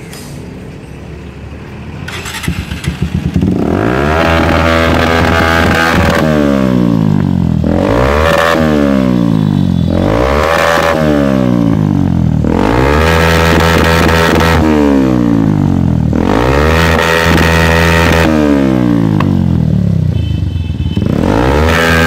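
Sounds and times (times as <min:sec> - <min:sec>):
motorcycle engine revving: 0:02.0 - 0:22.0.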